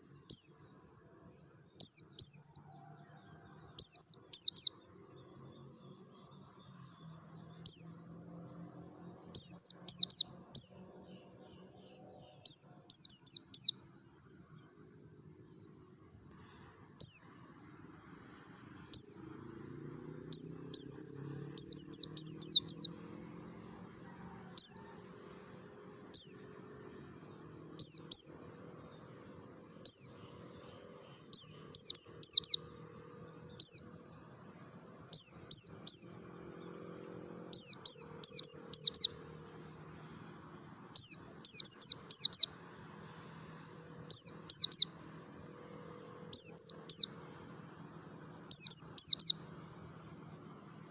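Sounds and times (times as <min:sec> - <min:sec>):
bird chirping: 0:00.0 - 0:00.7, 0:01.3 - 0:02.8, 0:03.5 - 0:19.3, 0:20.2 - 0:43.2, 0:44.0 - 0:45.0, 0:45.6 - 0:47.2, 0:48.1 - 0:49.5.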